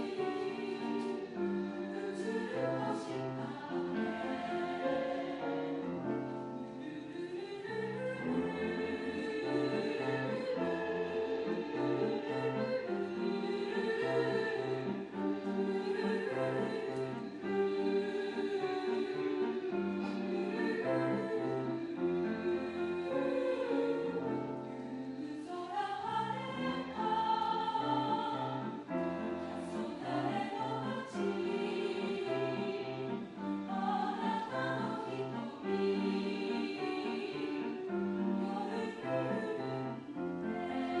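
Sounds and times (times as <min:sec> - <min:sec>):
mixed choir singing: 0:00.0 - 0:41.0.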